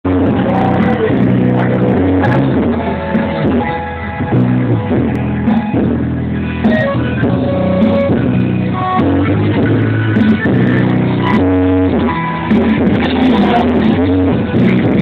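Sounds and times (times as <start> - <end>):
loud rock music from car stereo: 0.0 - 15.0.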